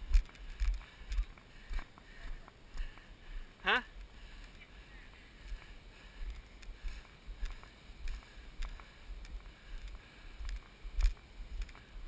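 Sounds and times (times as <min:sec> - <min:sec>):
running footsteps on grass: 0:00.0 - 0:12.0.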